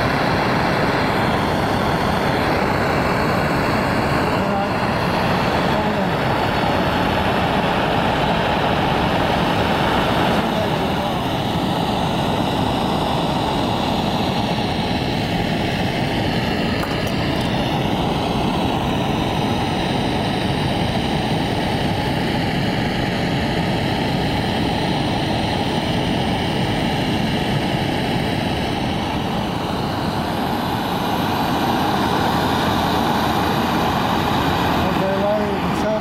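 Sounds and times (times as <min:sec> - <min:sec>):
gas torch hissing: 0:00.0 - 0:36.0.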